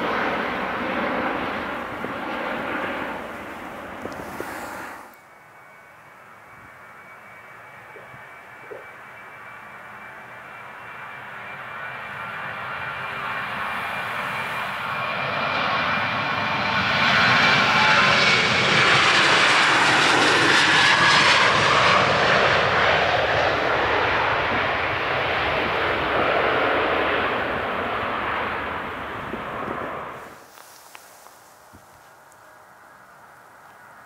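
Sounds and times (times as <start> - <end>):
high engine whine: 0.0 - 34.0
jet engines at take-off: 0.0 - 34.0.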